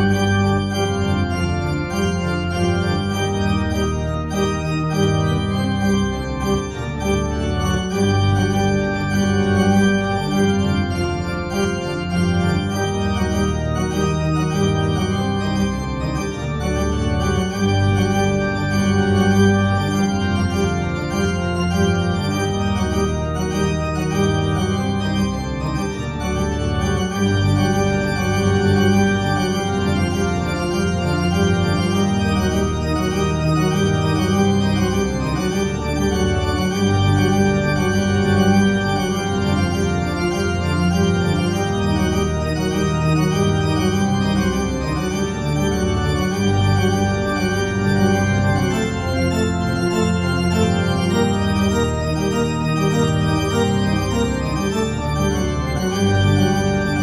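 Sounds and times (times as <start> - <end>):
organ playing sustained chords: 0.0 - 57.0.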